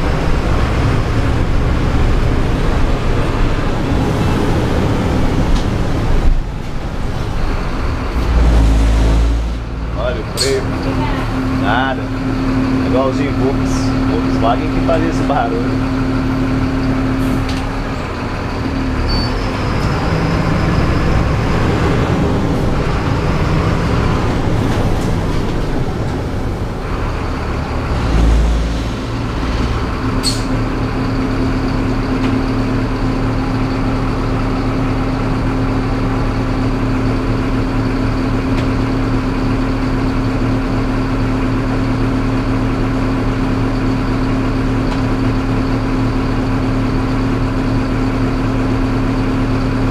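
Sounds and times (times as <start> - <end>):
bus diesel engine: 0.0 - 49.9.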